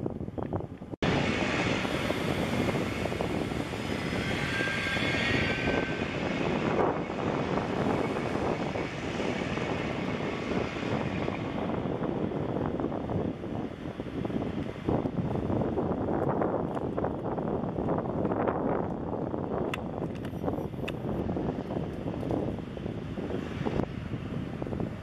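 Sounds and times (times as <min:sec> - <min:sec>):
wheels rumbling on rail: 0:00.0 - 0:25.0.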